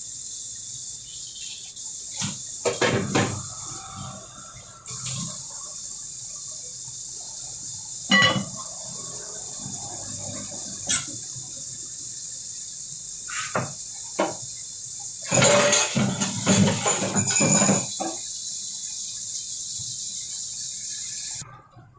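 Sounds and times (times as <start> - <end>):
steady hiss: 0.0 - 21.4.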